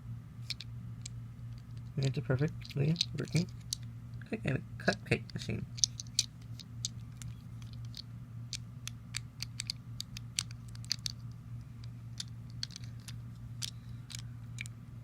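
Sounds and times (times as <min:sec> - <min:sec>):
steady low hum: 0:00.0 - 0:15.0
plastic pieces clicking: 0:00.4 - 0:03.9, 0:05.3 - 0:14.8.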